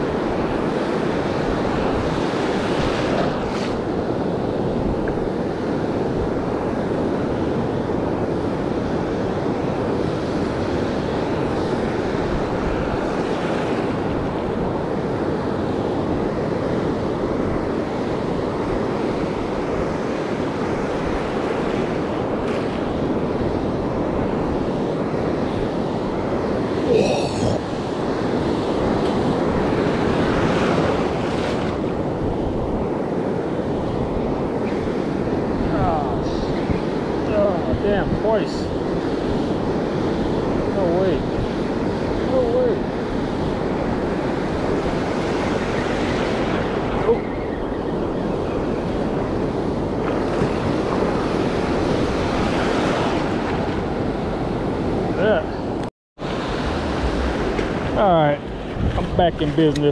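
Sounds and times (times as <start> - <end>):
ocean surf: 0.0 - 59.9
wind buffeting microphone: 0.0 - 59.9.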